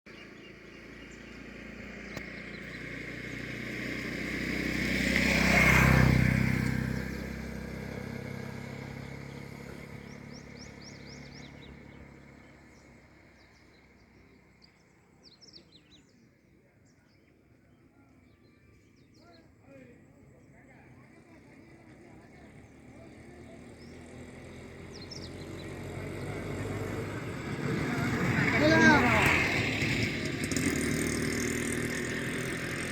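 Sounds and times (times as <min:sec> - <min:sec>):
motor vehicle passing by: 0:00.1 - 0:16.1, 0:20.4 - 0:32.9
small birds chirping: 0:00.1 - 0:32.9.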